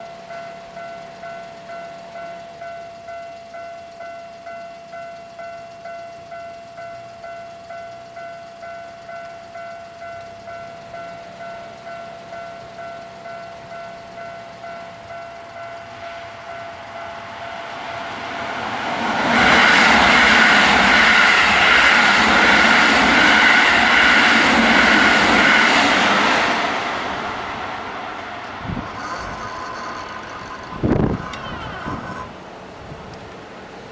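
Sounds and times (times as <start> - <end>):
electric train passing: 0.0 - 33.9.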